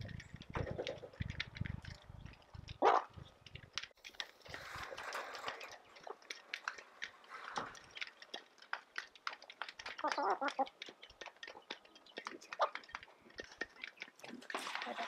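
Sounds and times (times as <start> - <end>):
goats crunching feed: 0.0 - 15.0.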